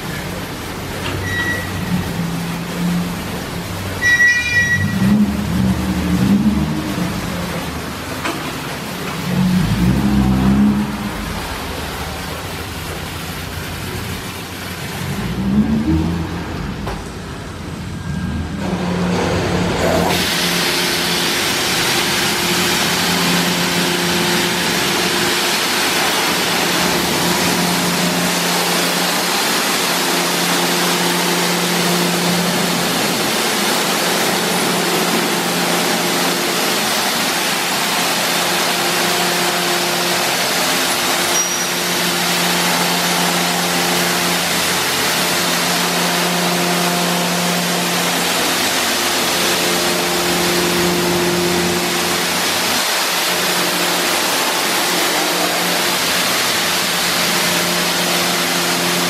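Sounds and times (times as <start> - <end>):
water spray hissing on car: 0.0 - 17.9, 19.9 - 59.0
machine whirring: 0.0 - 59.0
pump hum: 0.0 - 59.0.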